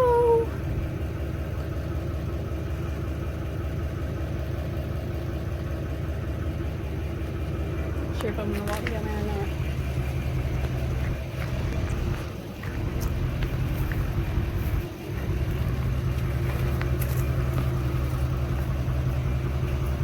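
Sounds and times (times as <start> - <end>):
generator engine drone: 0.0 - 20.0.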